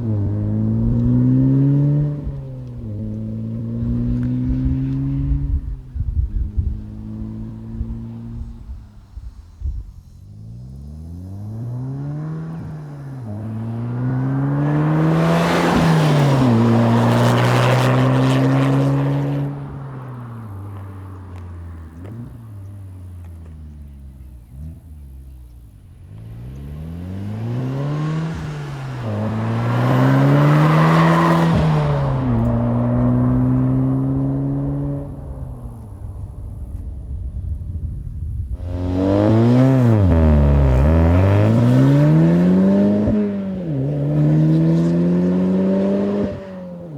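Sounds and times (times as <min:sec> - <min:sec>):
car accelerating through gears: 0:00.0 - 0:46.9.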